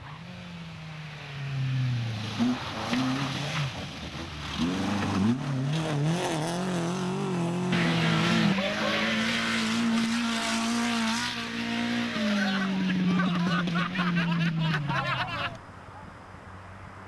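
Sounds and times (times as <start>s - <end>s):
rally car engine revving: 0.0s - 15.6s
tyres skidding: 0.0s - 15.6s.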